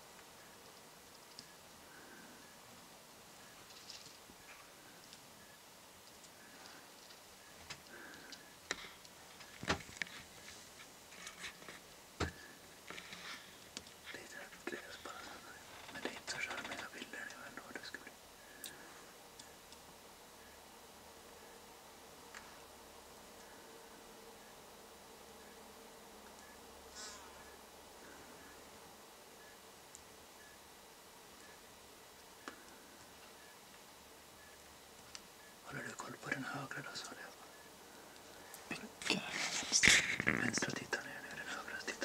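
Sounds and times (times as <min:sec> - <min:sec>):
faint background hiss: 0:00.0 - 0:42.0.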